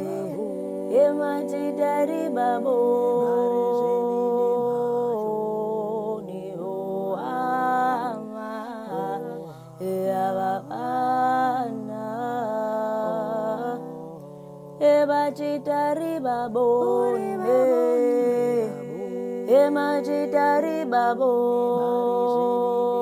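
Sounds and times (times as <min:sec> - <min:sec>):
woman singing a cappella harmony: 0:00.0 - 0:23.0.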